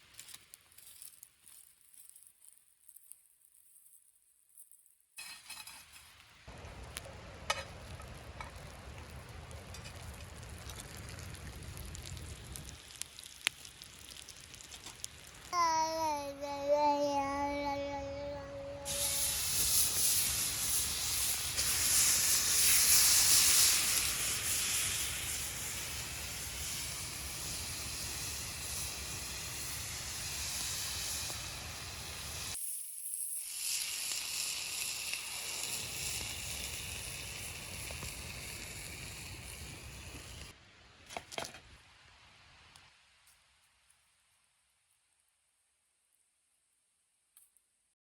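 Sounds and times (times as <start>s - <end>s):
food sizzling over campfire: 0.0s - 44.3s.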